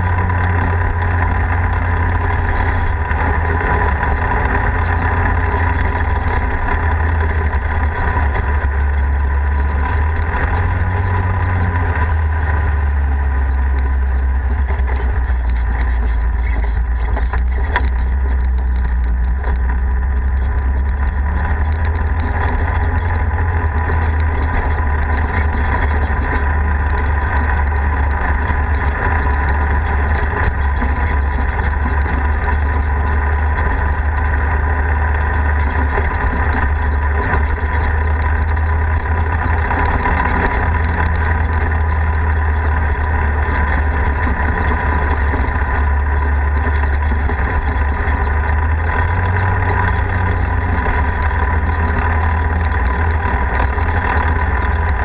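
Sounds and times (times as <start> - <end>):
vehicle engine low rumble: 0.0 - 55.0.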